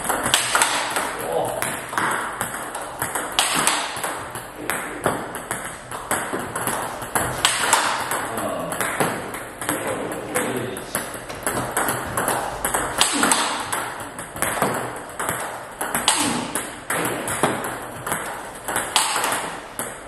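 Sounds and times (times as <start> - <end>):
table tennis ball clicks: 0.0 - 20.0.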